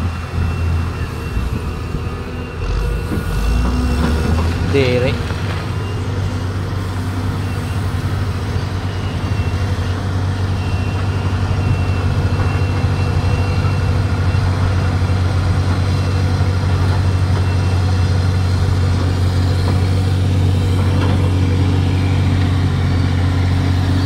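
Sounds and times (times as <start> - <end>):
bulldozer diesel engine under load: 0.0 - 24.0.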